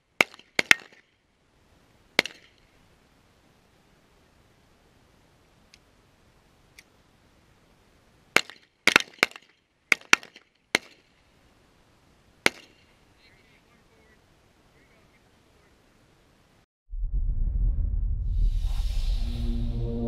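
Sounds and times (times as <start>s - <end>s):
faint background hiss: 0.0s - 16.7s.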